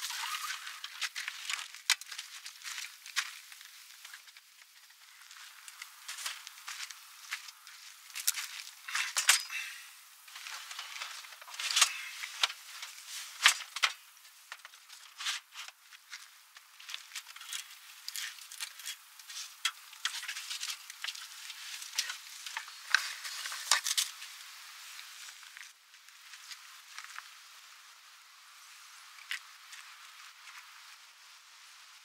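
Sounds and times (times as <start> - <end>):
rustling: 0.0 - 27.4.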